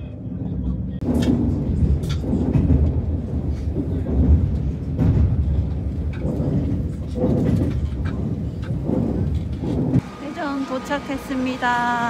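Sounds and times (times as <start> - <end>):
muffled voices: 0.0 - 12.0
train rumbling: 0.0 - 12.0.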